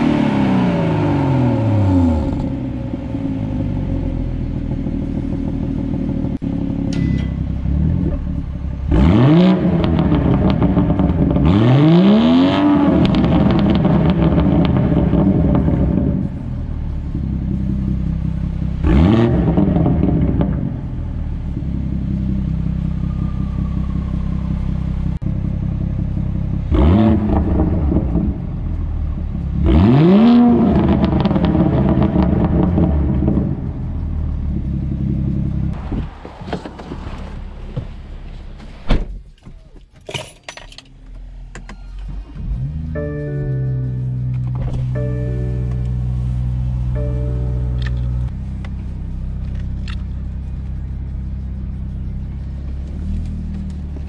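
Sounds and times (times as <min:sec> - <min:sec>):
engine revving blips: 0:00.0 - 0:38.2, 0:41.3 - 0:54.0
car engine idling: 0:00.0 - 0:40.0, 0:40.7 - 0:54.0.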